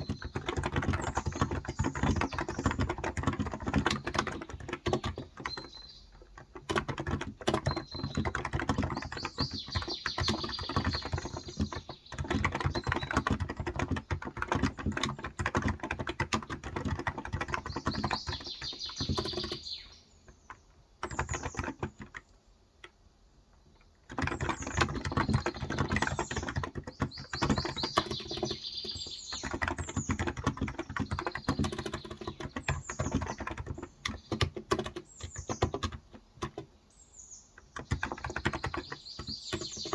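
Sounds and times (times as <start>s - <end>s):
fast keyboard typing: 0.0s - 19.7s, 20.5s - 22.2s, 24.0s - 36.7s, 37.6s - 39.9s
birds chirping: 0.0s - 39.9s.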